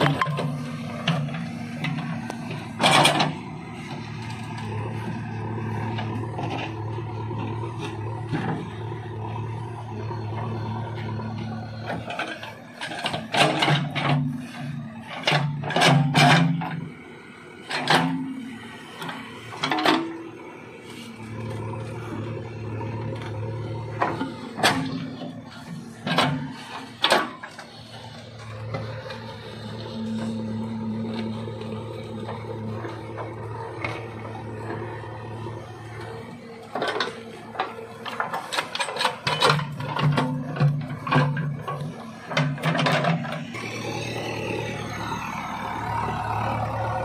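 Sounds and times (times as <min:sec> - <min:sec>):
diesel engine humming: 0:00.0 - 0:47.0.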